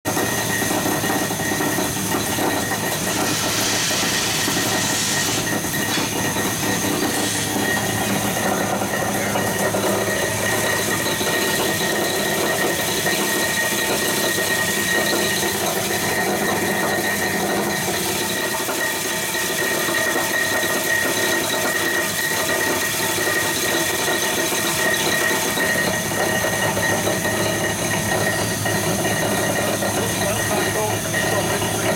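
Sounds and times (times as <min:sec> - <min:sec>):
granulator high whine: 0:00.1 - 0:31.9.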